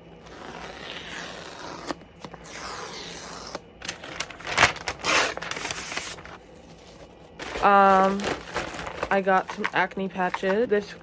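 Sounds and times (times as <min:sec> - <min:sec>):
packaging rustling and scraping: 0:00.3 - 0:11.0.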